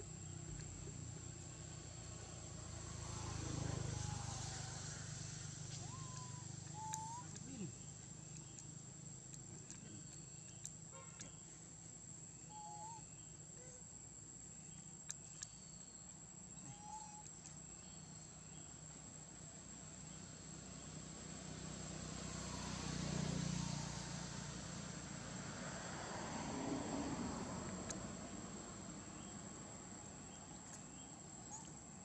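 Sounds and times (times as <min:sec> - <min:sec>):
forest insects droning: 0:00.0 - 0:32.0.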